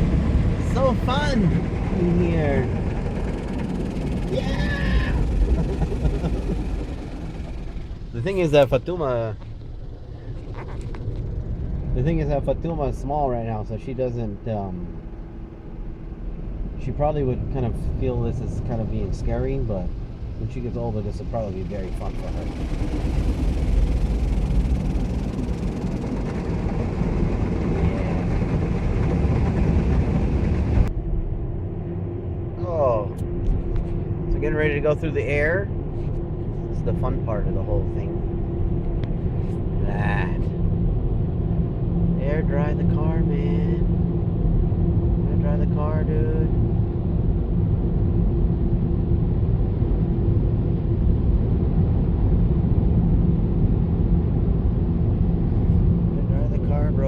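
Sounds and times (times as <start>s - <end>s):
car wash machinery rumbling: 0.0s - 57.0s
faint constant hum: 0.0s - 57.0s.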